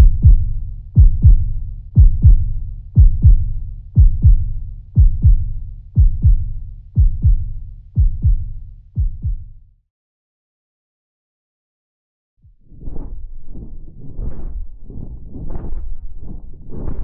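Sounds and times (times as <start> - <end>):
heartbeat: 0.0 - 9.6, 12.5 - 17.0.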